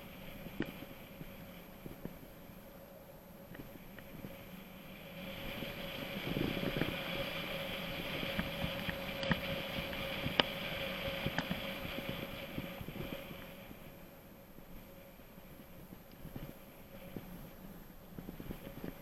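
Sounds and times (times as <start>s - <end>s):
tyre and wind noise: 0.0s - 19.0s.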